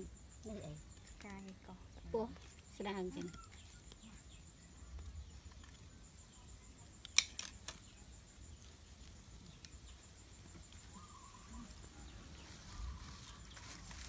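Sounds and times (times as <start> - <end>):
pulsing insect trill: 0.0 - 14.0.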